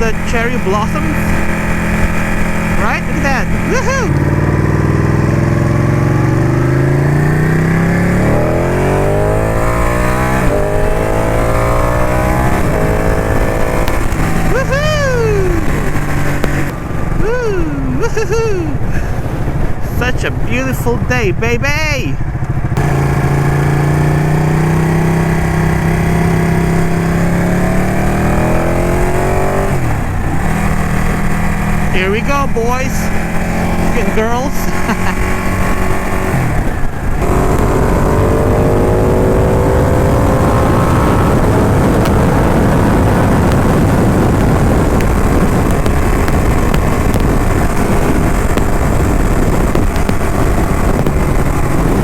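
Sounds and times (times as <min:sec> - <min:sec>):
motorcycle engine accelerating: 0:00.0 - 0:52.0
wind and road noise: 0:00.0 - 0:52.0.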